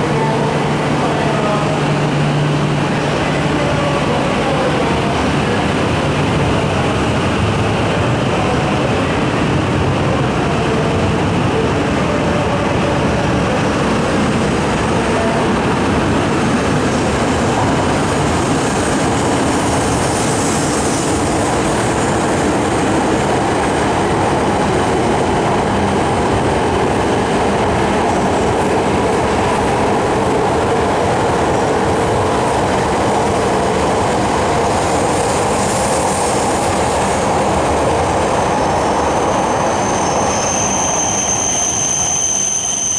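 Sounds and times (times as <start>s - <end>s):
train wheel and rail noise: 0.0s - 42.9s.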